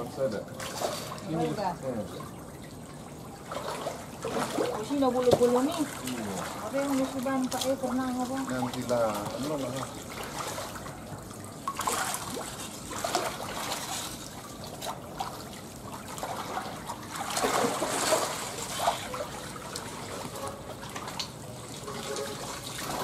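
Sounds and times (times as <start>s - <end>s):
pond water splashing: 0.0s - 23.0s.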